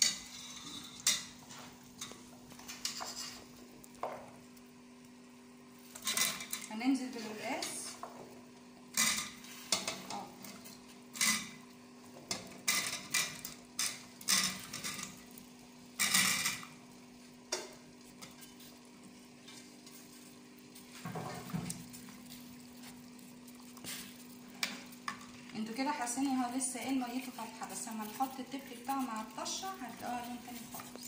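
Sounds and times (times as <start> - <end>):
stirring in pot: 0.0 - 4.6, 5.7 - 31.0.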